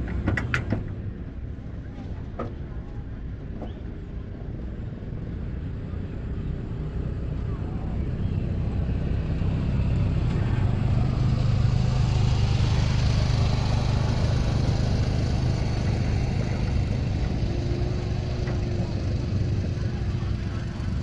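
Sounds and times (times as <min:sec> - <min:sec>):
racing car engines droning: 0:00.0 - 0:21.0.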